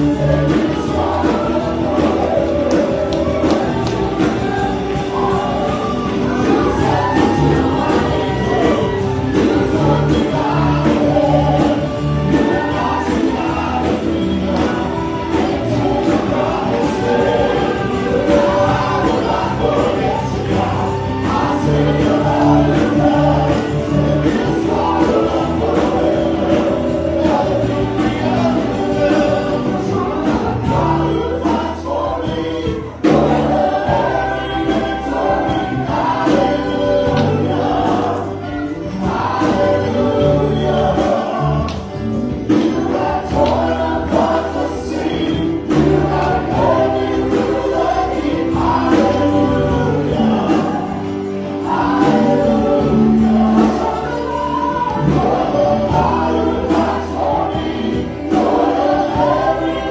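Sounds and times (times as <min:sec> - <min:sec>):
congregation singing: 0:00.0 - 0:59.9
worship band playing: 0:00.0 - 0:59.9.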